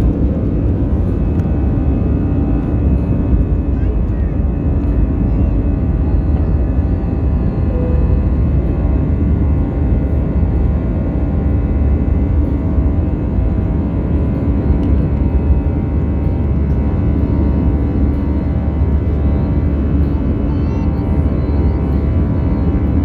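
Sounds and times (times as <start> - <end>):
airplane cabin engine drone: 0.0 - 23.0
hum of fixed tones: 0.0 - 23.0.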